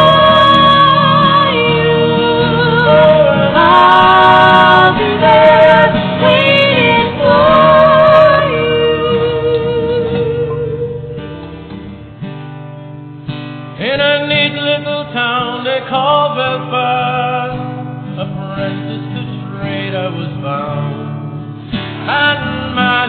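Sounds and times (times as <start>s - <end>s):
acoustic guitar: 0.0s - 23.0s.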